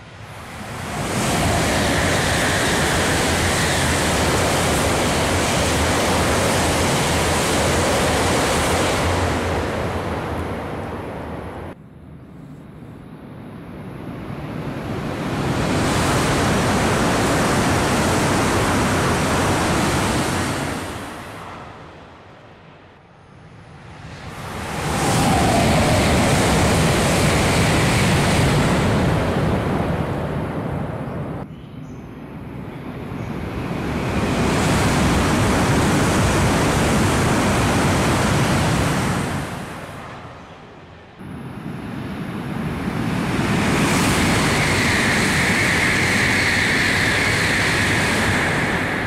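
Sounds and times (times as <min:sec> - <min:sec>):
high-speed train passing: 0:00.0 - 0:12.5, 0:13.1 - 0:49.0.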